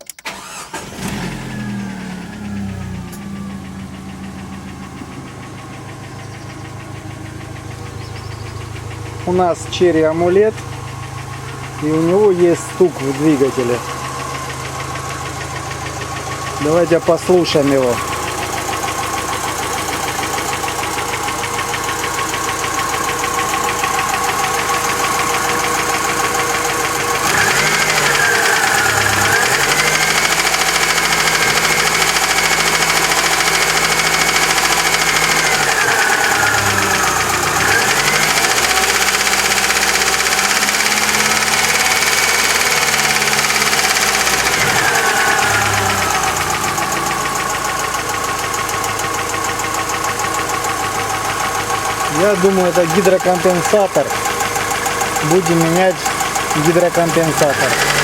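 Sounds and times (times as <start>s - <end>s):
petrol engine revving with knock: 0.1s - 58.0s.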